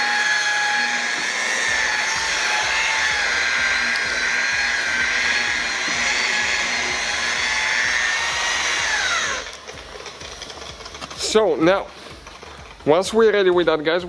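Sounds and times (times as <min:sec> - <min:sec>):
electric polisher whining: 0:00.0 - 0:12.8.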